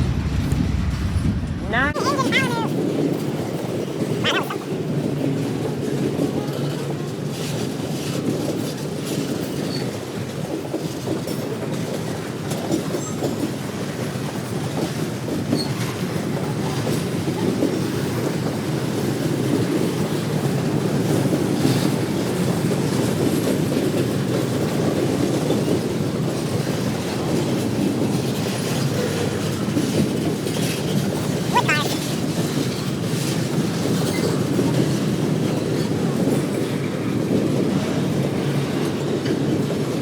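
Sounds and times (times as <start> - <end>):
train rumble: 0.0 - 40.0
train wheels clacking on rails: 2.0 - 40.0.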